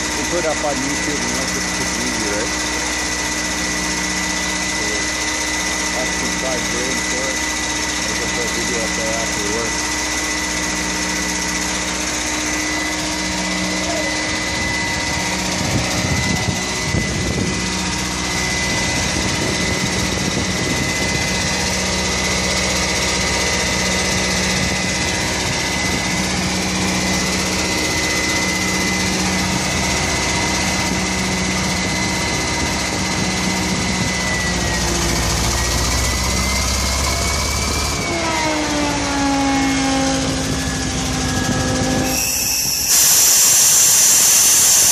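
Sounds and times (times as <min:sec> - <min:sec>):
engine winding down: 0:00.0 - 0:44.9
generator engine running: 0:00.0 - 0:44.9.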